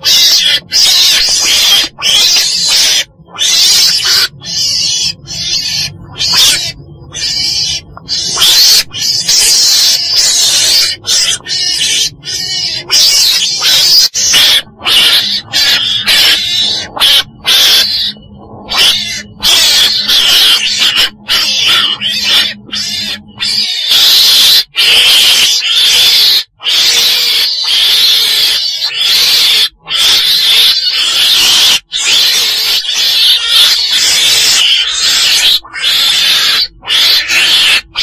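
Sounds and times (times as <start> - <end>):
harsh raspy animal calls: 0.0 - 38.0.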